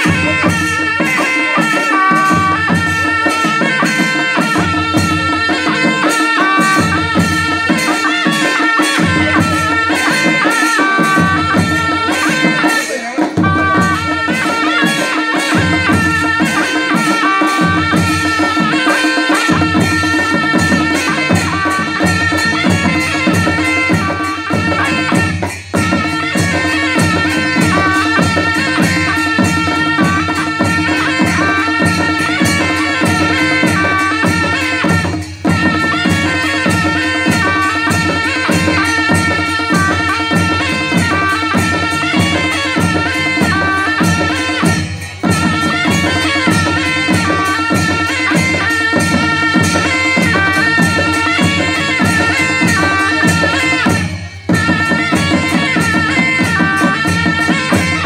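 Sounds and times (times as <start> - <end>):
drums and cymbals beat: 0.0 - 58.0
wavering shawm melody: 0.0 - 58.0.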